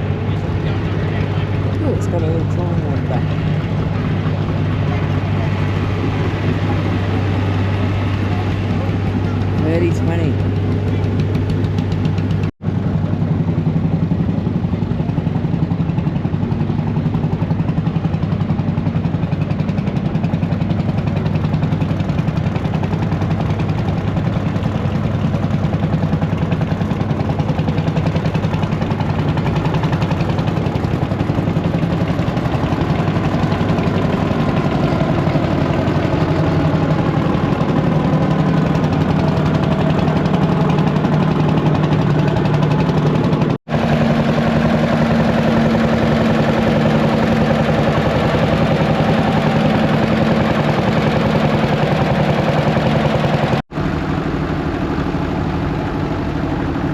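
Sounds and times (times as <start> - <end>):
engine idling with pulsing beat: 0.0 - 56.9.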